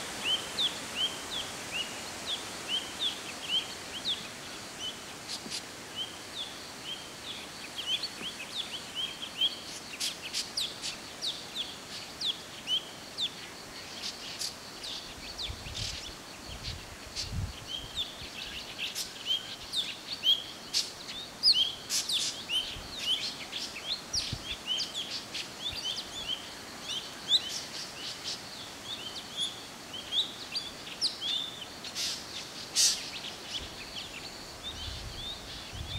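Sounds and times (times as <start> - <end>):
birds chirping: 0.0 - 35.9
faint hiss: 0.0 - 35.9.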